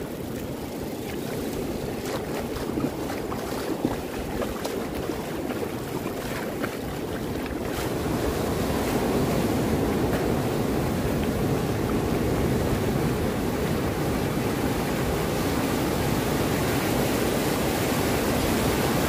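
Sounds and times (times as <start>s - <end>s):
sea surf washing up beach: 0.0s - 19.0s.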